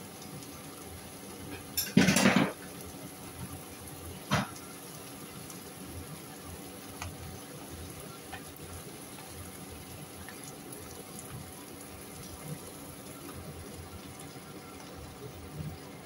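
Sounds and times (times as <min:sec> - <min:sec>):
sauce simmering in a pan: 0:00.0 - 0:16.0.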